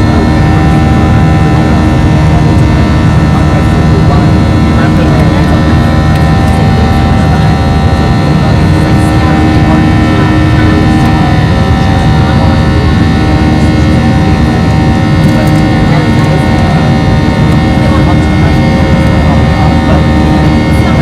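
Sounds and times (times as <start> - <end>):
engine whining tones: 0.0 - 21.0
jet engines heard in cabin: 0.0 - 21.0.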